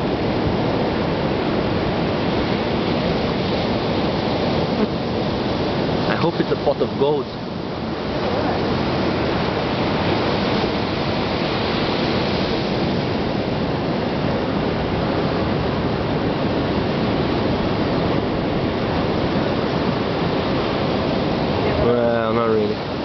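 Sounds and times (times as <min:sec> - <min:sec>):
ocean surf: 0:00.0 - 0:23.0
wind: 0:00.0 - 0:23.0.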